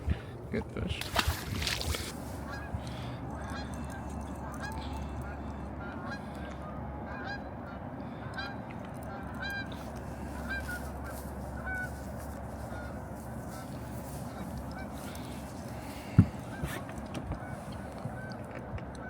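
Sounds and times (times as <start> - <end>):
low background rush: 0.0 - 19.0
geese honking: 2.3 - 18.4.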